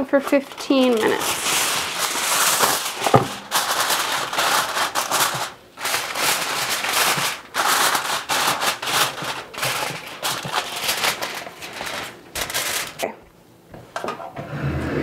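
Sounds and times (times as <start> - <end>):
aluminium foil crinkling: 0.0 - 13.2.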